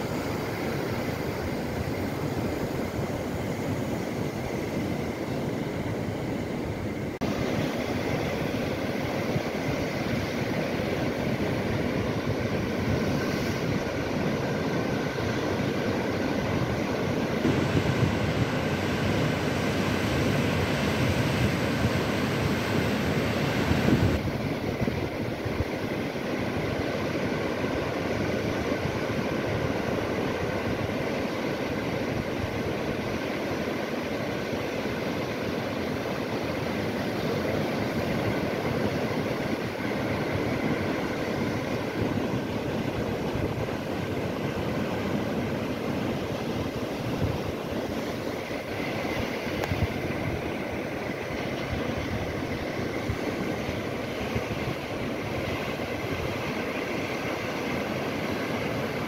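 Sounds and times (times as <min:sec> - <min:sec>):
sea waves washing on shore: 0:00.0 - 0:59.0.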